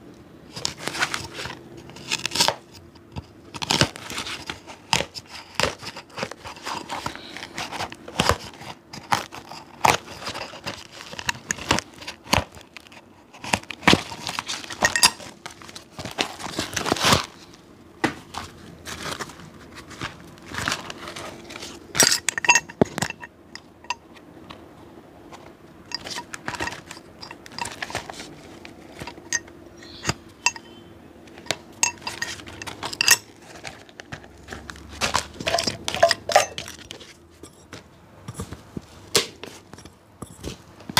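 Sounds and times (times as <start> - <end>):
faint steady hum: 0.0 - 40.9
hand tools tapping and scraping: 0.5 - 24.6, 25.3 - 40.9.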